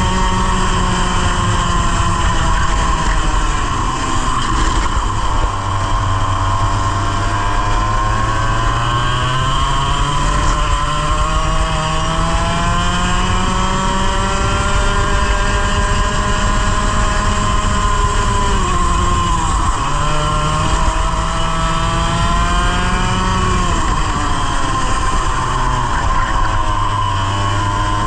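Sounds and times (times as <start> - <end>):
racing kart engine revving: 0.0 - 28.0.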